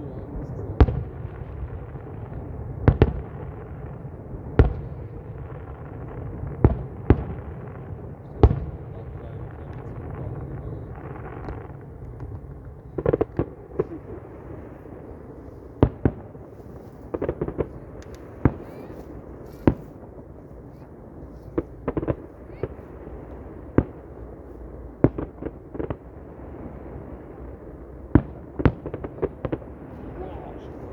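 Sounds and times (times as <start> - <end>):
fireworks bangs: 0.0 - 30.9
fireworks crackling: 0.0 - 30.9.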